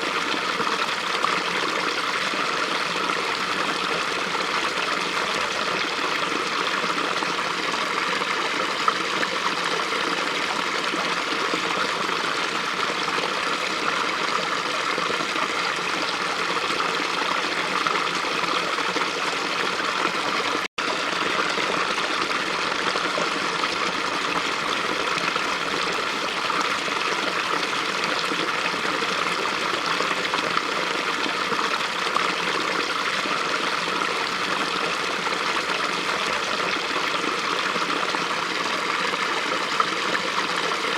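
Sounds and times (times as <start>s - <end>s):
small stream running: 0.0s - 40.9s.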